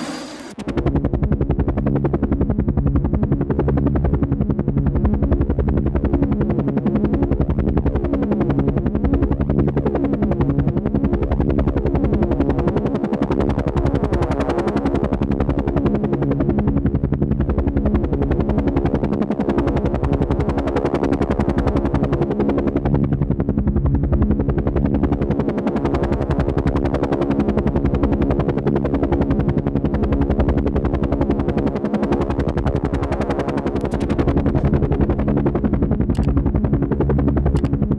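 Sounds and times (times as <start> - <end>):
helicopter rotor chopping: 0.0 - 37.9.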